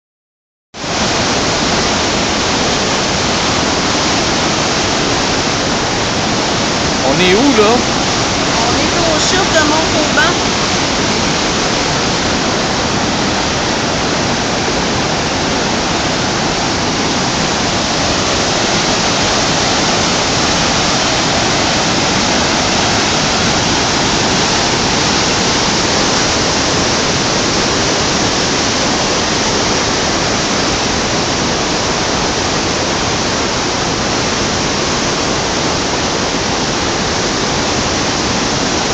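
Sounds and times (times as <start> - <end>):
waterfall rushing: 0.8 - 38.9.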